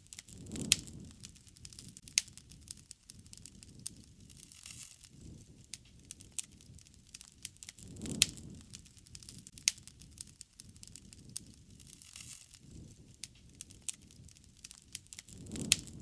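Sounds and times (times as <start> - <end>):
burning wood popping and snapping: 0.0 - 16.0
low rumble of flames: 0.0 - 16.0.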